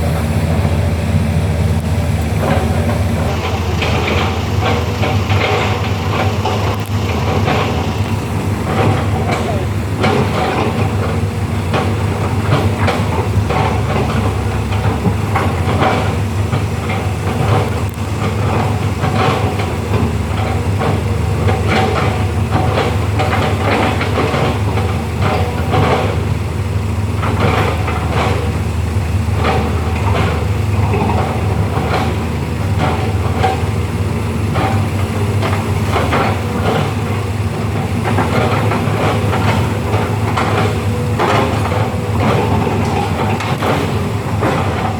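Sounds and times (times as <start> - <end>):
diesel engine droning: 0.0 - 44.9
metallic clanks and knocks: 0.0 - 44.9.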